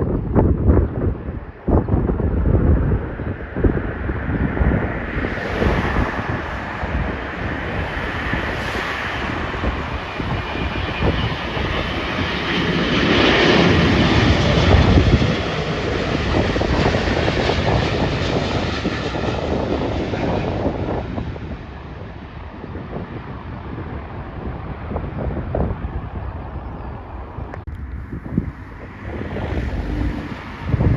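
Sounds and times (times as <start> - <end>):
jet airliner passing: 0.0 - 30.9
wind buffeting microphone: 0.0 - 30.9.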